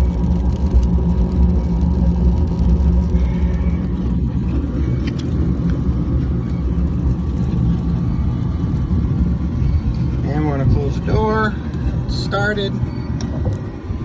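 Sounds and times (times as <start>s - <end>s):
furnace draft fan blowing: 0.0s - 14.0s.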